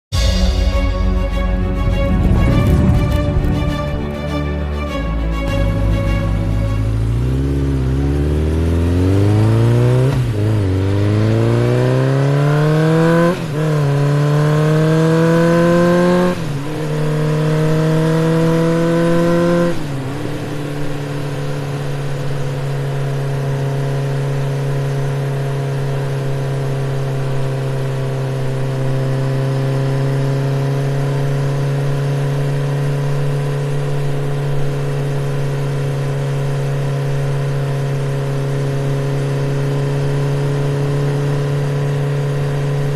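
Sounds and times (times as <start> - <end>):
motorcycle engine accelerating: 0.1 - 42.9.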